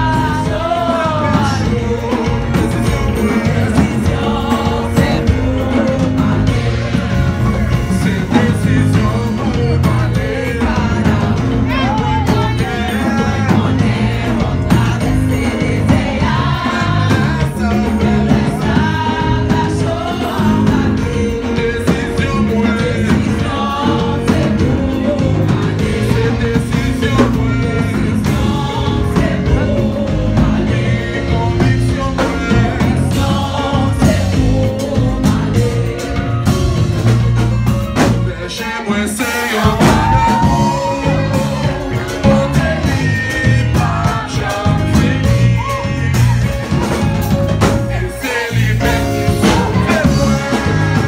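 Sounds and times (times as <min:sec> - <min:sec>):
group singing into microphones: 0:00.0 - 0:51.0
live band playing: 0:00.0 - 0:51.0.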